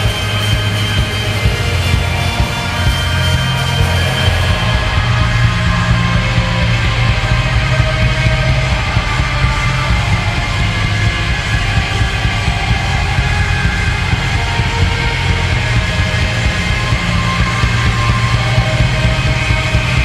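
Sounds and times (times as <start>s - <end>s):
loud dense music: 0.0s - 20.0s.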